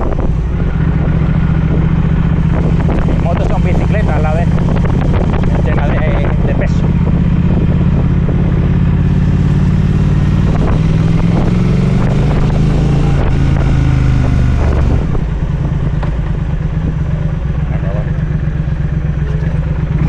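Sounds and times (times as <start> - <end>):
motorcycle engine under throttle: 0.0 - 20.0.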